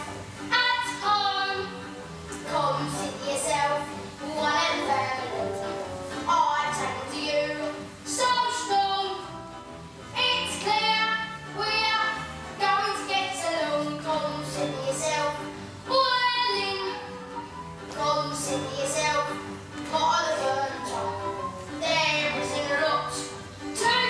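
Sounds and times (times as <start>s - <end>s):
child singing: 0.0s - 1.7s, 2.5s - 5.6s, 6.3s - 9.2s, 10.2s - 17.1s, 18.0s - 24.0s
accompanying music: 0.0s - 24.0s.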